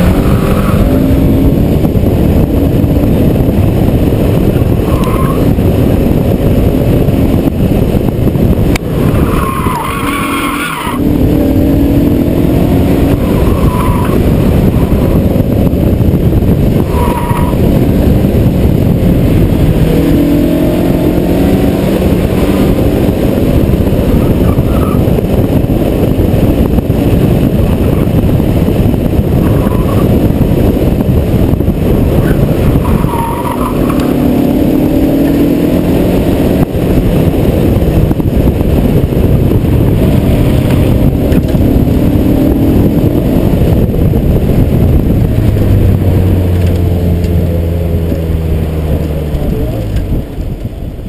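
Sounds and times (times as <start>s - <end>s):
car engine revving: 0.0s - 51.0s
wind rushing over microphone: 0.0s - 51.0s.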